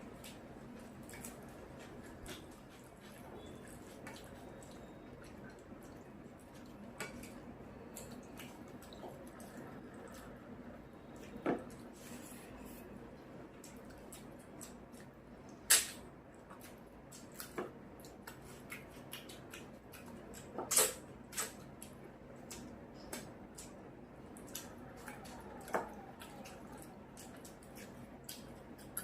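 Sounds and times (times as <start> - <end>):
wet chewing and mouth clicks: 0.1 - 10.4, 13.2 - 29.0.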